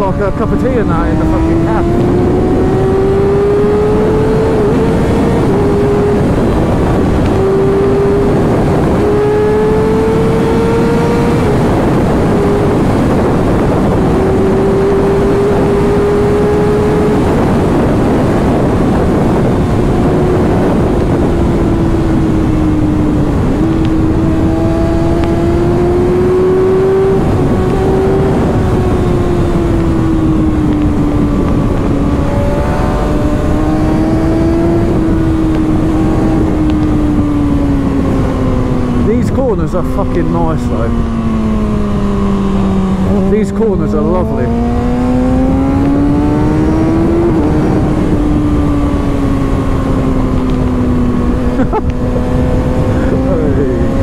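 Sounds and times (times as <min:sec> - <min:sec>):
heavy wind rush: 0:00.0 - 0:54.0
motorcycle engine running: 0:00.0 - 0:54.0.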